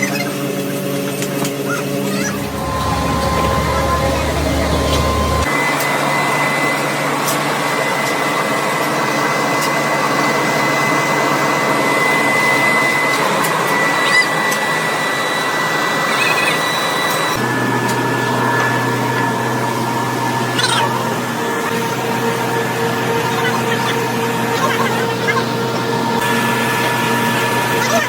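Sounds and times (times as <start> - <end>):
workshop machine whining: 0.4 - 28.0.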